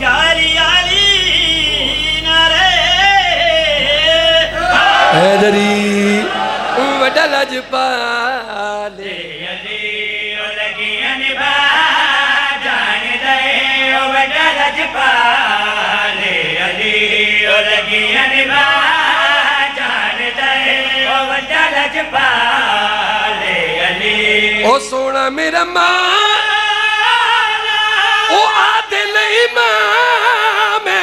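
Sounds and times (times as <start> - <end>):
men chanting into microphones: 0.0 - 31.0.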